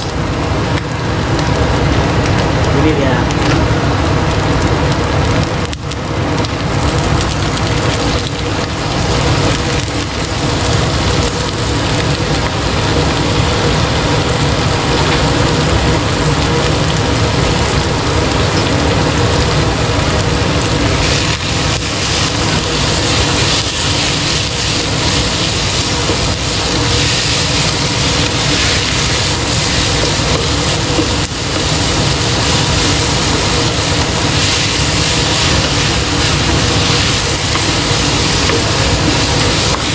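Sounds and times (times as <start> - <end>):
meat sizzling in hot oil: 0.0 - 39.9.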